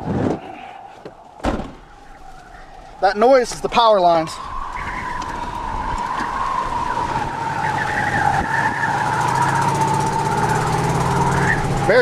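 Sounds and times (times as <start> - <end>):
high whine from power lines: 0.0 - 12.0.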